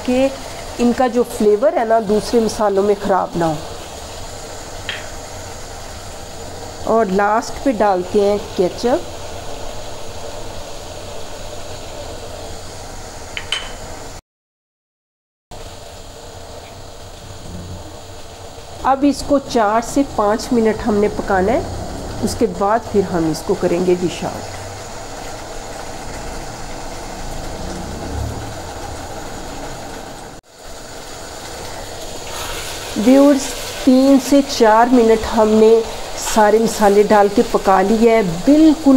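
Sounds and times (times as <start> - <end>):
low hum with hiss: 0.0 - 14.2, 15.6 - 38.9
sauce simmering in a wok: 0.0 - 14.2, 15.6 - 38.9.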